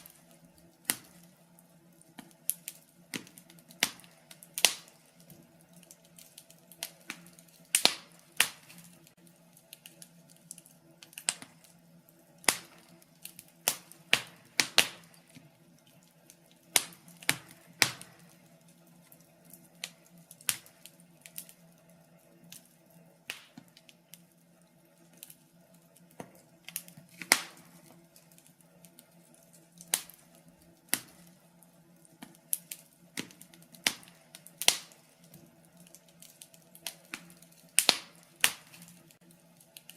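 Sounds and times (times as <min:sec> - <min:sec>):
burning logs crackling: 0:00.0 - 0:39.9.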